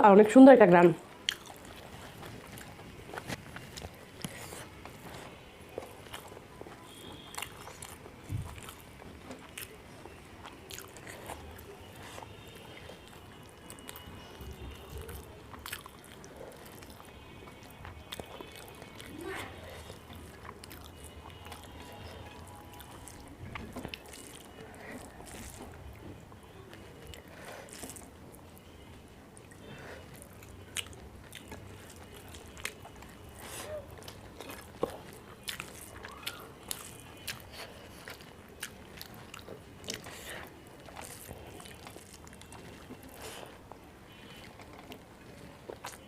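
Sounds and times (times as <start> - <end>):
person chewing food: 1.0 - 46.0.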